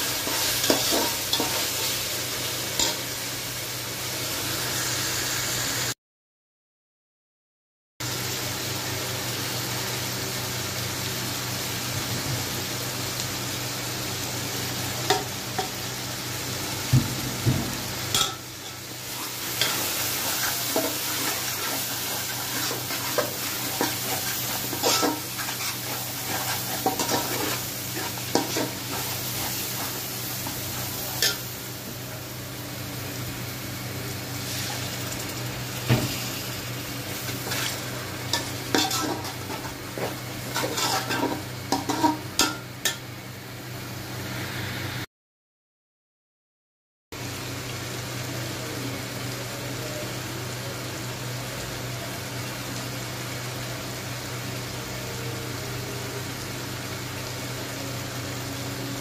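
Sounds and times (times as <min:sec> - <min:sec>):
masala sizzling in oil: 0:00.0 - 0:06.0, 0:08.0 - 0:45.1, 0:47.2 - 0:59.0.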